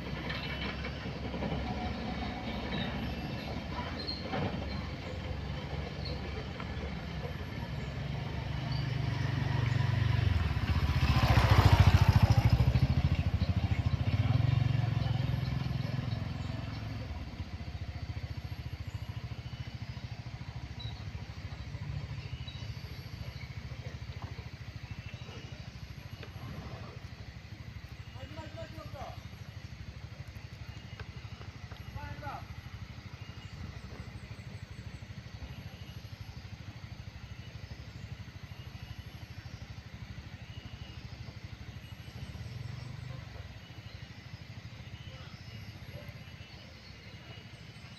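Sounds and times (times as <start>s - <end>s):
small engine idling: 0.0s - 47.9s.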